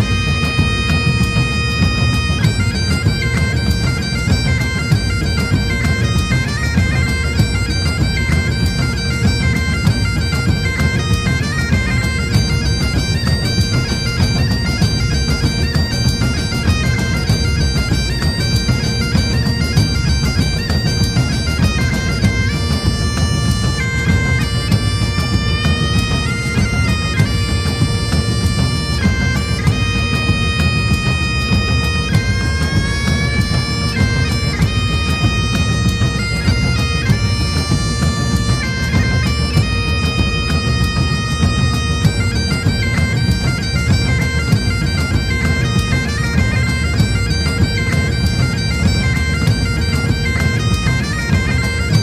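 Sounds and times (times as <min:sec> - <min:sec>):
bagpipe melody over drone: 0:00.0 - 0:52.0
drum beat: 0:00.0 - 0:52.0.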